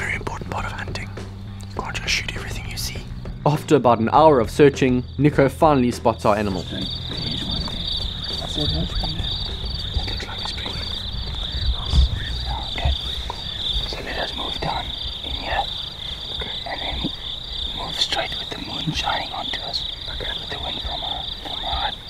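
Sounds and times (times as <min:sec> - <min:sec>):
fast pulsing insect trill: 0:00.0 - 0:22.0
insects chirring: 0:00.0 - 0:22.0.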